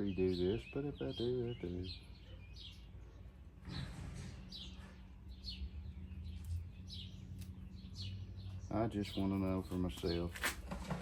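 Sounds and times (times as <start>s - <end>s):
bird chirping: 0.0s - 10.4s.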